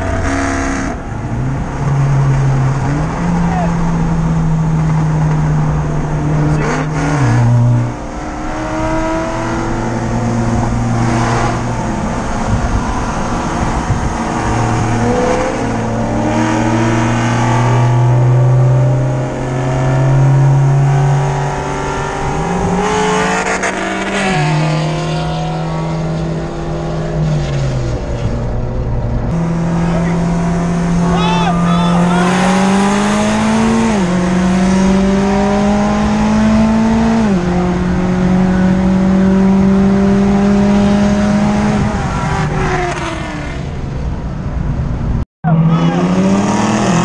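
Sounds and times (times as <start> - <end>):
car engine drone: 0.0 - 47.0
wind and road noise: 0.0 - 47.0.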